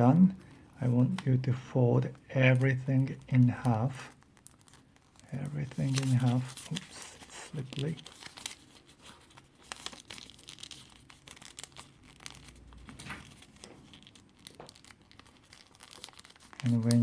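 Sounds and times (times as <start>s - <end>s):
paper rustling and crinkling: 0.8s - 17.0s.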